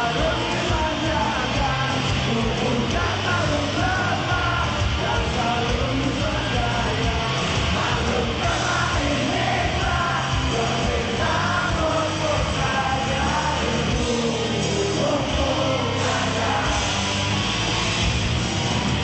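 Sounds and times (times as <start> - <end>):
person singing and yelling: 0.0 - 17.0
rock band playing live: 0.0 - 19.0.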